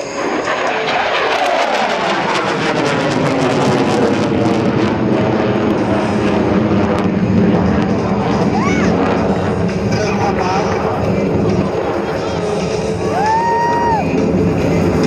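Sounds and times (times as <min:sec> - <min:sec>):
jet roar passing by: 0:00.0 - 0:15.0.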